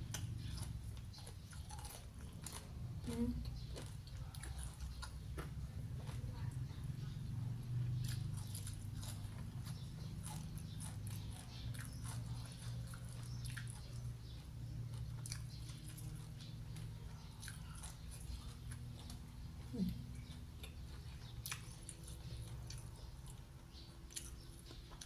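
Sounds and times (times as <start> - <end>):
chewing crunchy food: 0.0 - 25.0
steady low hum: 0.0 - 25.0.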